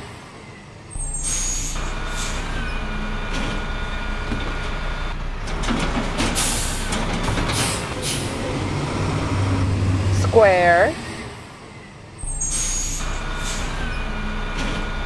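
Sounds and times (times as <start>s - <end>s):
garbage truck engine hum: 0.0s - 15.0s.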